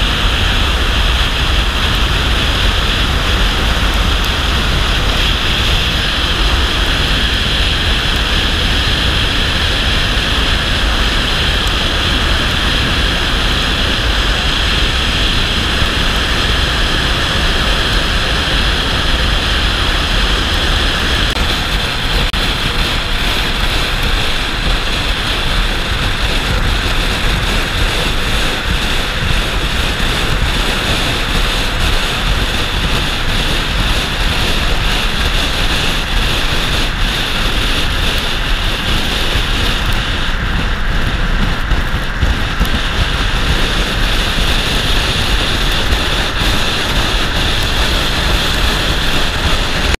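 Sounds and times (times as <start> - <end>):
wind and road noise: 0.0 - 49.9
wind buffeting microphone: 0.0 - 49.9.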